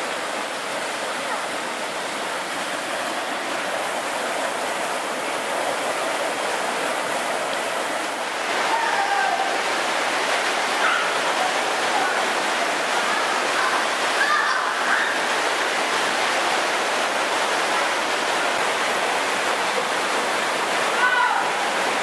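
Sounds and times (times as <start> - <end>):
water rushing down rapids: 0.0 - 22.0.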